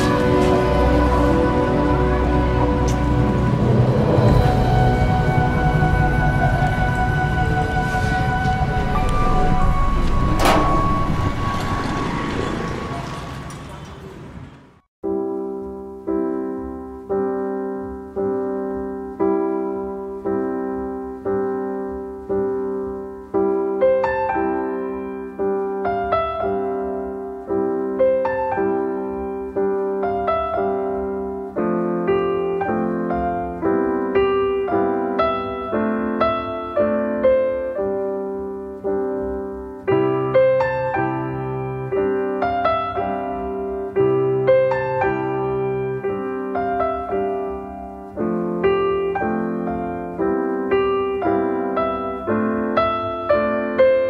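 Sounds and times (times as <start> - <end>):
slow gentle piano melody: 0.0 - 14.1, 15.0 - 54.0.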